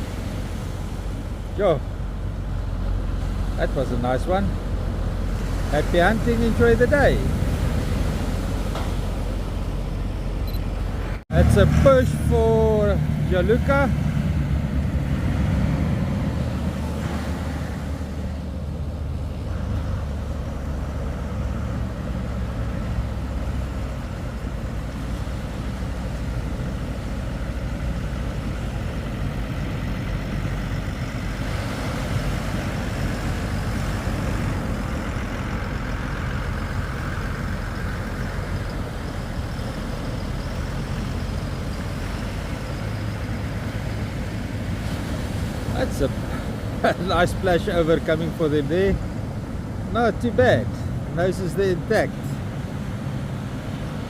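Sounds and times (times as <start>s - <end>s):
engines droning: 0.0s - 54.0s
surf: 0.0s - 54.0s
wind: 0.0s - 54.0s.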